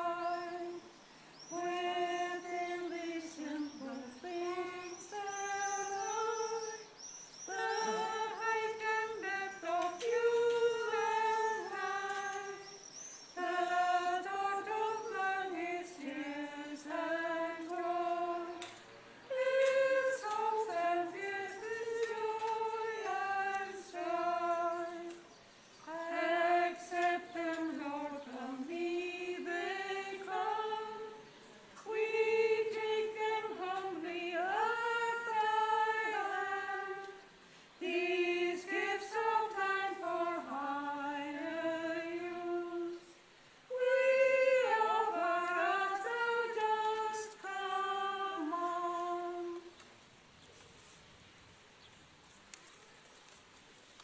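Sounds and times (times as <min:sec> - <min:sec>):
unaccompanied hymn singing: 0:00.0 - 0:50.0.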